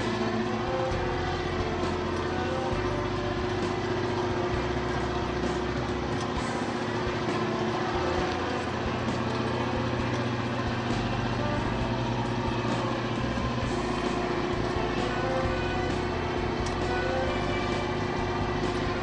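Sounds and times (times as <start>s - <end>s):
boat engine and machinery hum: 0.0s - 19.0s.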